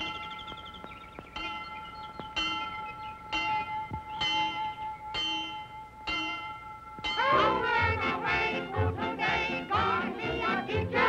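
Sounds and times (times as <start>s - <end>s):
bell tolling: 0.0s - 9.0s.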